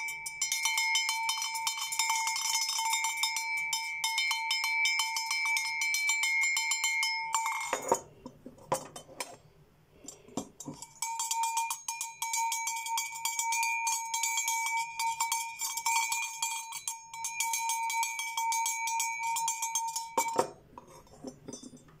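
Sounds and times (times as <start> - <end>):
metal bell clanking: 0.0 - 8.1, 10.1 - 21.9.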